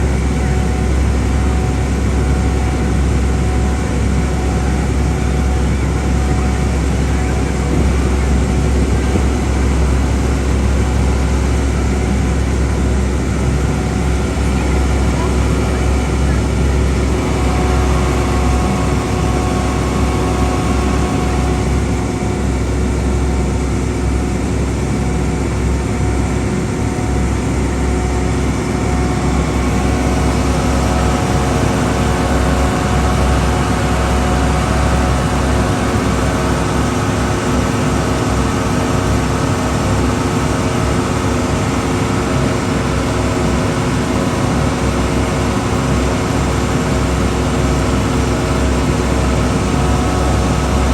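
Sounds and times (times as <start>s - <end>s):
boat engine humming: 0.0s - 50.9s.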